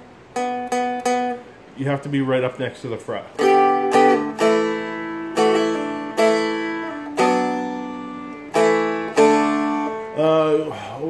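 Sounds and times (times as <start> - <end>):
guitar chords strummed: 0.0 - 2.4, 3.2 - 10.8.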